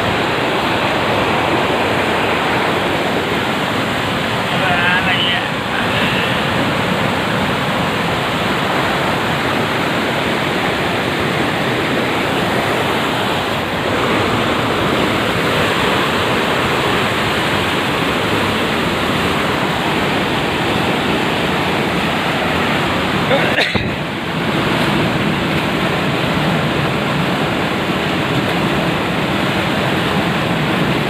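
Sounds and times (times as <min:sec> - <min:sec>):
river cascading over rocks: 0:00.0 - 0:31.0.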